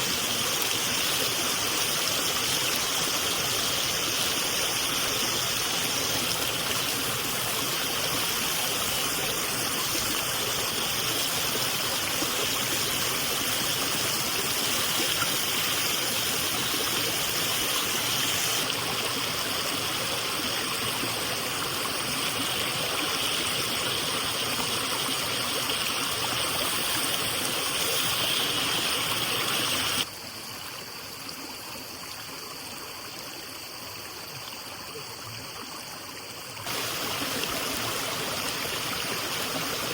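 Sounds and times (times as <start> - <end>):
running water rushing: 0.0 - 30.2, 36.5 - 39.9.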